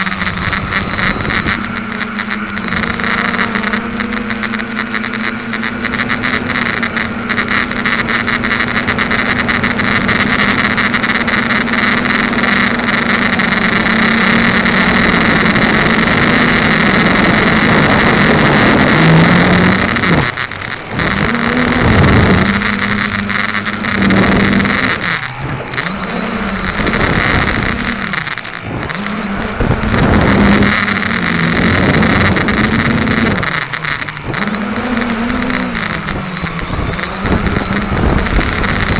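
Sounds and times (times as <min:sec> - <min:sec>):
quadcopter propellers buzzing: 0:00.0 - 0:38.9.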